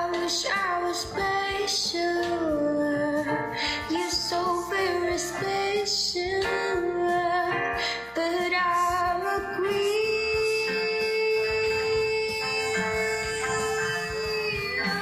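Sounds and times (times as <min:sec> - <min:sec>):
musical backing: 0:00.0 - 0:15.0
woman singing: 0:00.0 - 0:15.0.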